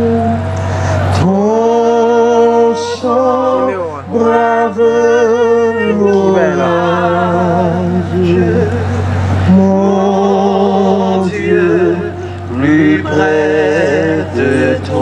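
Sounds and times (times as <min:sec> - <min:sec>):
man and woman singing a hymn: 0:00.0 - 0:15.0
steady low hum: 0:00.0 - 0:15.0.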